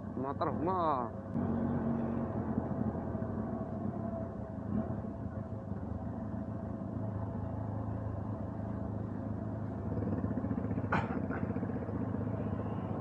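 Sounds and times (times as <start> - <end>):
motorcycle engine running: 1.3 - 13.0.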